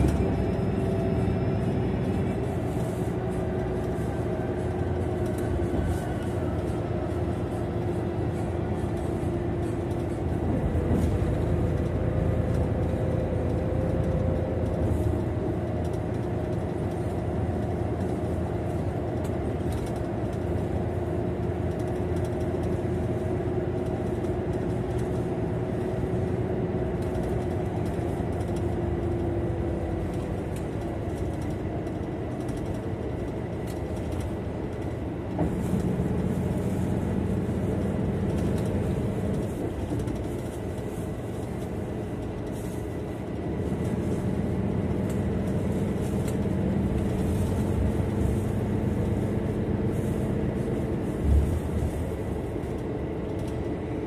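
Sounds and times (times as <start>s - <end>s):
bus engine and road hum: 0.0s - 54.0s.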